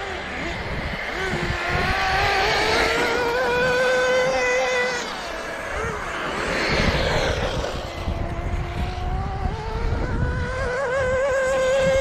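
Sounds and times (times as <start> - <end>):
small engine screaming at high revs: 0.0 - 12.0
wind on microphone: 0.0 - 12.0.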